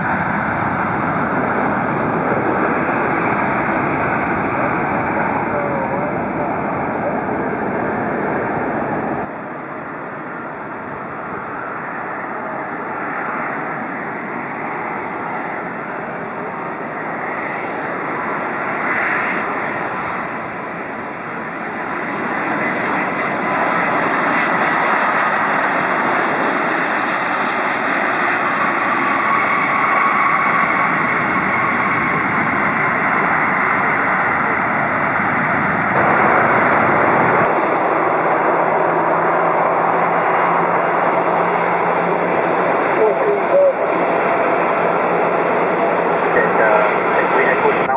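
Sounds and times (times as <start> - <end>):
high engine whine: 0.0 - 47.9
jet engines running: 0.0 - 47.9.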